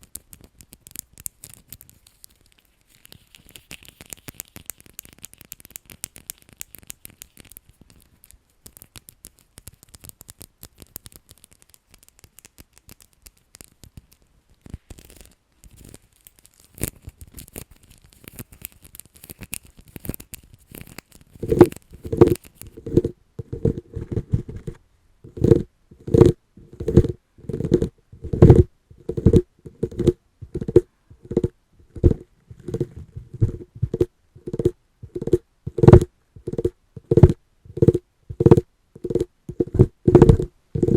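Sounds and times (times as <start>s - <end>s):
light scratching and crinkling: 0.0s - 40.9s.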